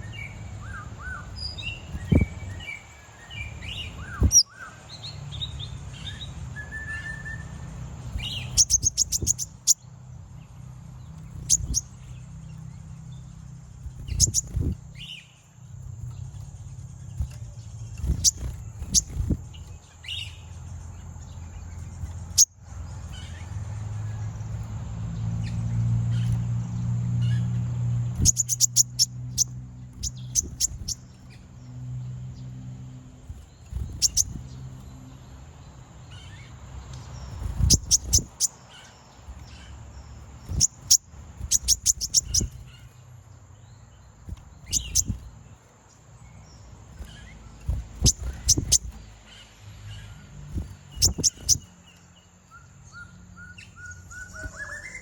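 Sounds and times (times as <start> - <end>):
bird chirping sharply: 0.0 - 24.6, 25.4 - 32.6, 33.2 - 35.1, 36.0 - 55.0.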